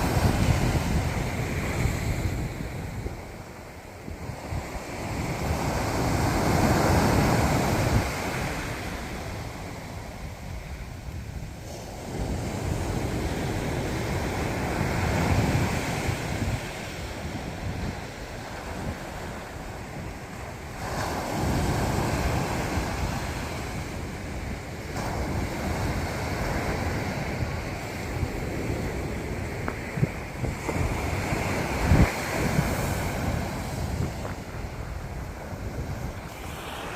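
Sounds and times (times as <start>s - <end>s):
sea waves breaking on shore: 0.0s - 36.9s
wind buffeting microphone: 0.0s - 36.9s.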